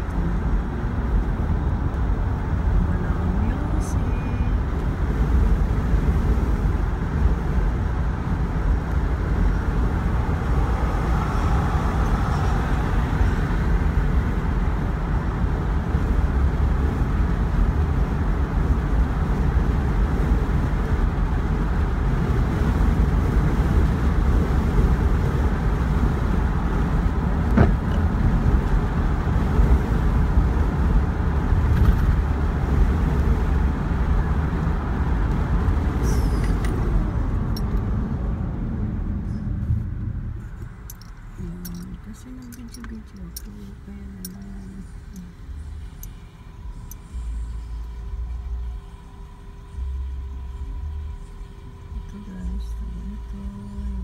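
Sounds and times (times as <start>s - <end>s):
car road noise from cabin: 0.0s - 54.0s.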